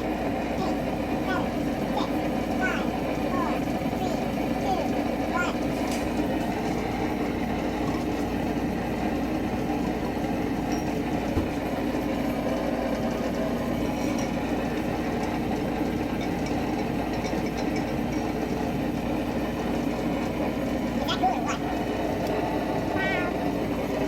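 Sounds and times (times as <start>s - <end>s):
steady mechanical drone: 0.0s - 24.0s.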